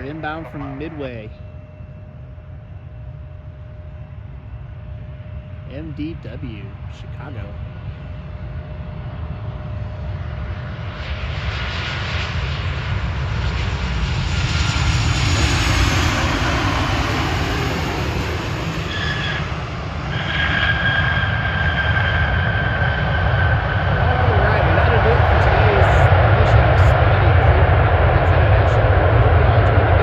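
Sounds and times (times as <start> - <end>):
jet airliner landing: 0.0 - 30.0
jet engine whine: 0.0 - 30.0.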